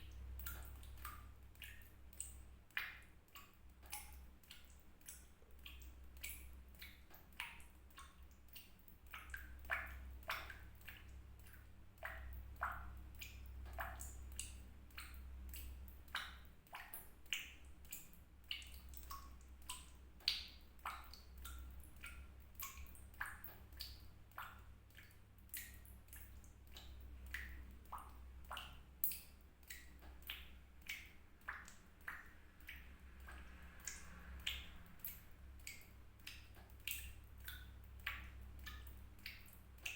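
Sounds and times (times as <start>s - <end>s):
low steady hum: 0.0s - 39.9s
water drops dripping: 0.0s - 39.9s.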